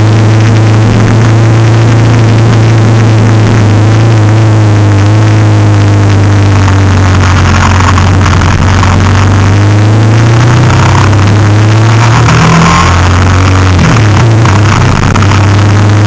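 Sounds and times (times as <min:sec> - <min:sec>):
loud rushing noise: 0:00.0 - 0:16.0
vehicle engine under load: 0:00.0 - 0:16.0.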